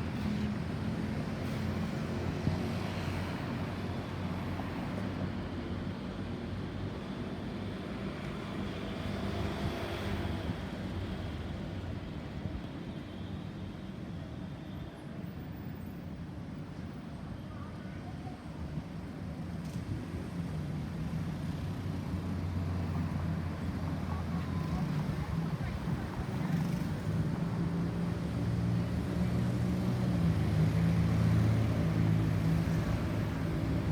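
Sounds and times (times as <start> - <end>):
road traffic noise: 0.0 - 13.8, 18.5 - 33.9.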